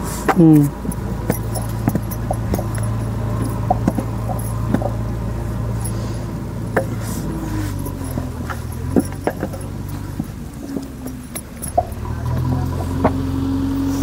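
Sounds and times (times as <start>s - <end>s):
knocks of moulding bricks: 0.0s - 5.8s, 6.7s - 13.4s
low engine hum: 0.0s - 14.0s.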